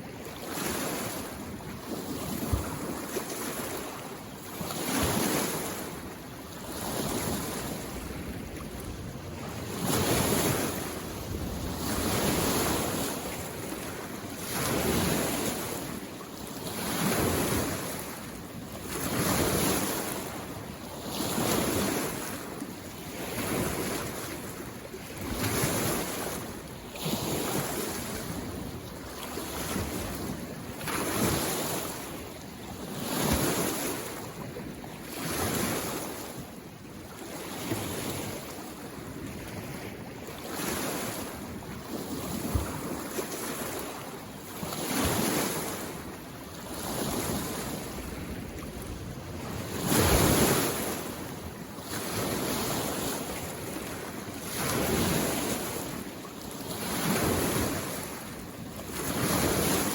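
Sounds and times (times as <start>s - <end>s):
small waves washing in: 0.0s - 59.9s.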